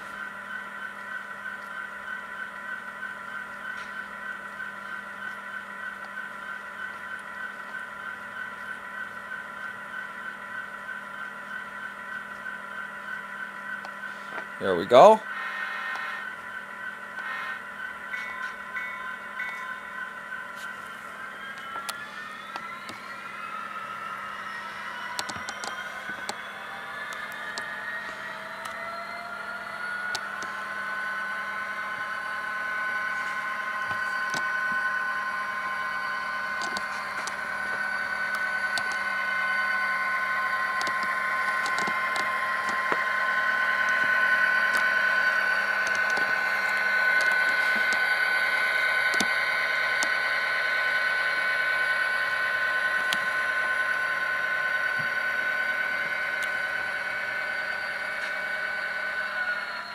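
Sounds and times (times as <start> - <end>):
model locomotive diesel engine drone: 0.0 - 59.9.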